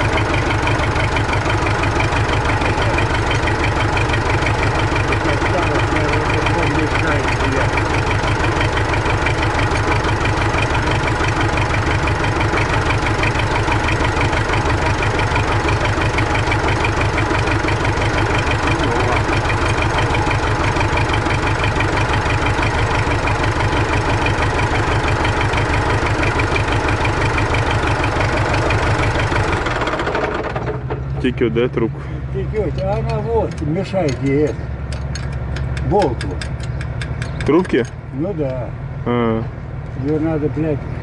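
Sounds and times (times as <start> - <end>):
diesel tractor engine idling: 0.0 - 41.0.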